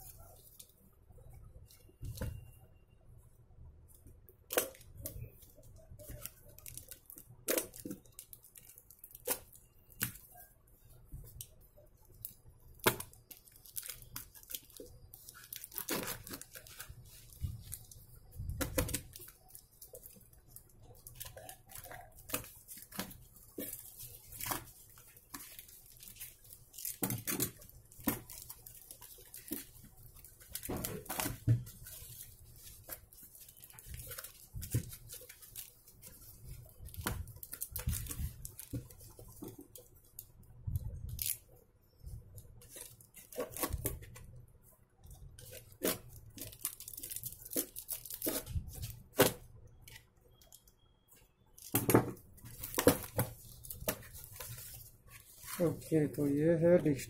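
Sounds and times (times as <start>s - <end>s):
plastic film crinkling: 4.5s - 44.3s, 45.0s - 50.7s, 51.6s - 57.0s.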